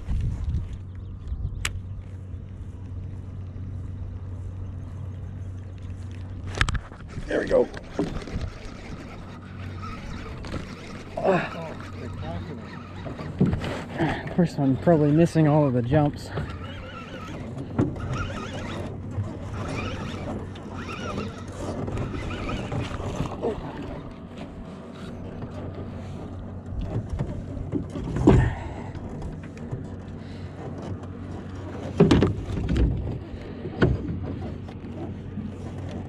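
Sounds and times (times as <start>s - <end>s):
water sloshing against kayak: 2.1s - 36.0s.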